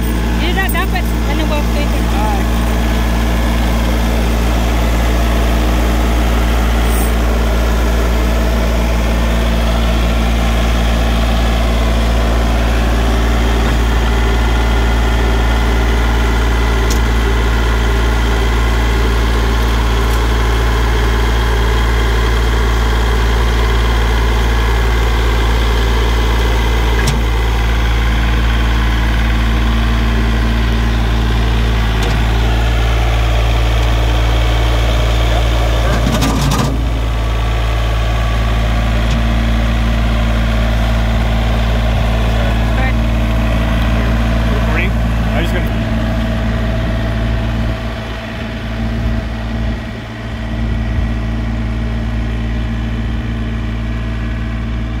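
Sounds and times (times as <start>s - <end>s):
diesel tractor engine idling: 0.0s - 55.0s.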